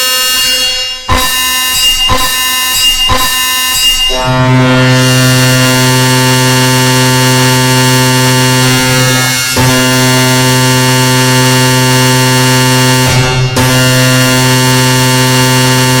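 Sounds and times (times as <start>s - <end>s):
buzzing cluster of synthesized notes: 0.0s - 16.0s.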